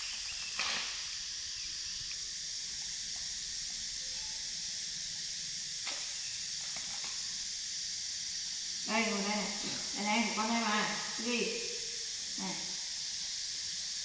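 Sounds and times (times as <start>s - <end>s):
high-pitched background hiss: 0.0s - 14.0s.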